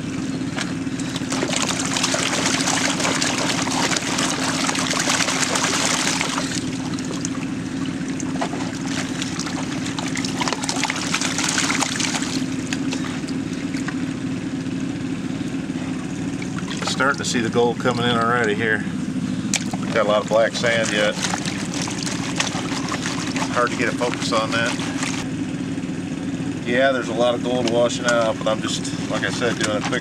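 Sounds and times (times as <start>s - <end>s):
water sloshing and splashing: 0.0s - 25.4s, 27.6s - 30.0s
engine hum: 0.0s - 30.0s.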